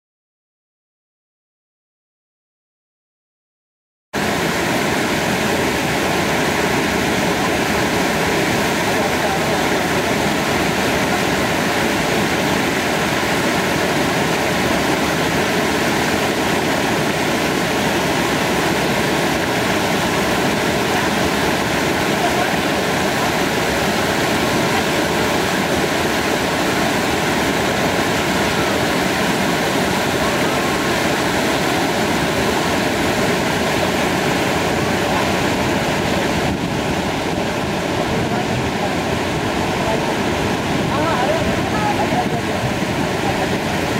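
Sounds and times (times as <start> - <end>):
waterfall rushing: 4.2 - 43.9.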